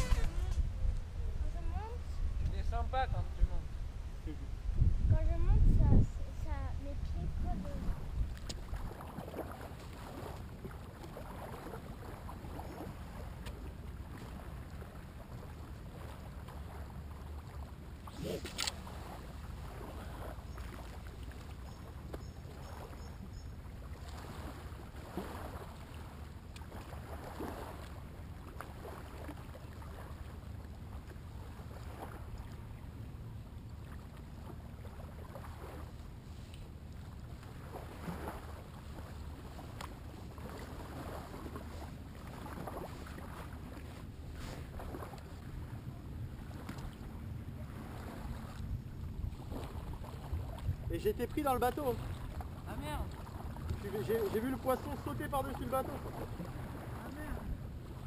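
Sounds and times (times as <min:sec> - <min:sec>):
small waves lapping: 0:00.0 - 0:58.0
wind rumbling on microphone: 0:00.0 - 0:58.0.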